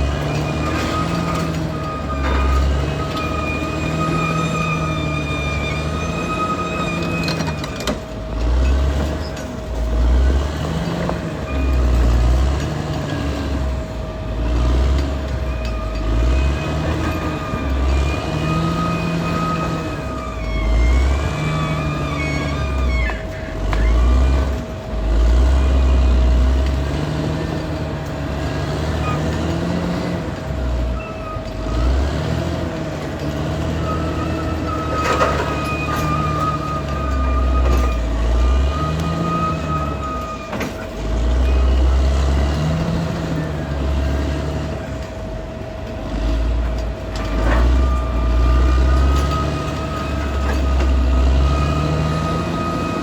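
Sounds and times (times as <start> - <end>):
high squealing: 0.0 - 45.0, 47.2 - 53.0
bulldozer diesel engine under load: 0.0 - 53.0.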